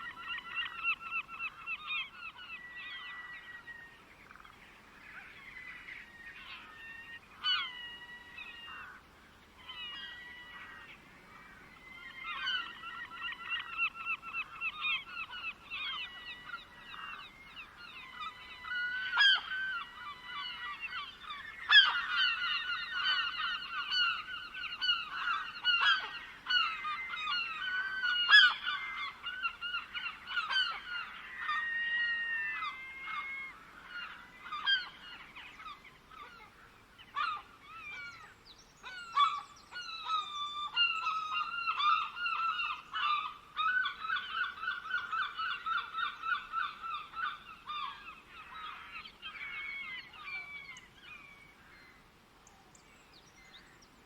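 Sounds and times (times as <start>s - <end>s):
flock of birds calling: 0.0s - 54.0s.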